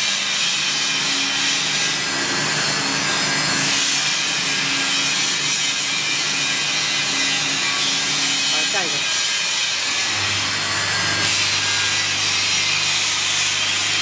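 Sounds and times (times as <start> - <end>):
shoe finishing machine running: 0.0 - 14.0.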